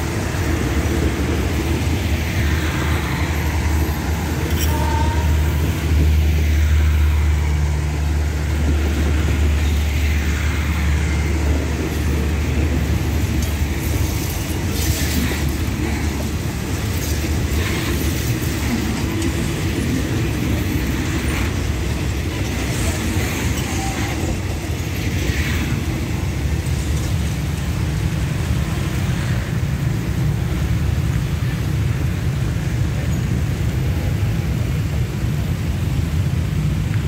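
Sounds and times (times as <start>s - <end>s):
train clattering: 0.0s - 37.0s
train wheels rumbling on track: 0.0s - 37.0s.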